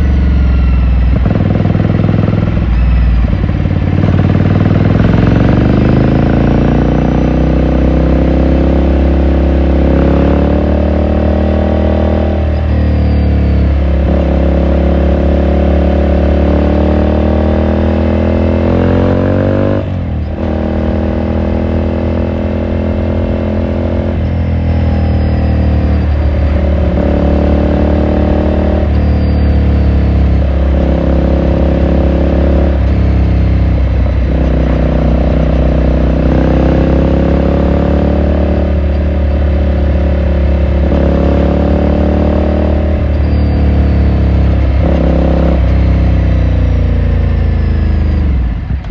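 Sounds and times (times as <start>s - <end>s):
motorcycle engine and exhaust: 0.0s - 48.9s.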